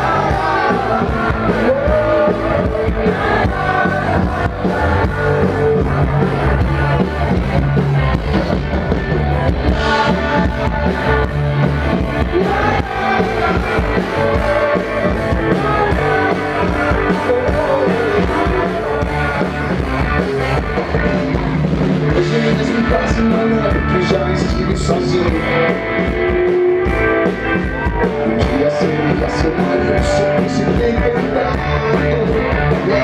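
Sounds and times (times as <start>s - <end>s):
person singing: 0.0s - 7.8s, 8.9s - 33.0s
guitar: 0.0s - 33.0s
rock band playing live: 0.0s - 33.0s.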